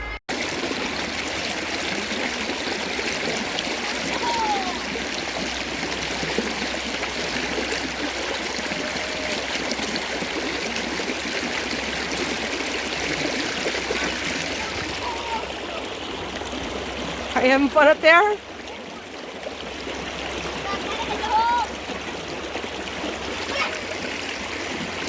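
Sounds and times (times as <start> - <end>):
creek water flowing over rocks: 0.3 - 25.0.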